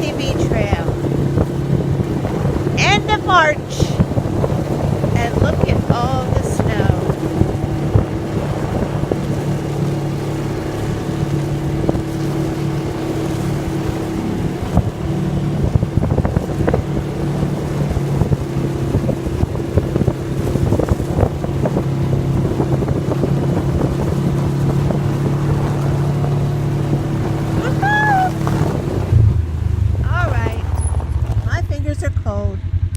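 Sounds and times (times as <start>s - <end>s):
atv engine running: 0.0s - 32.9s
wind buffeting microphone: 0.0s - 32.9s.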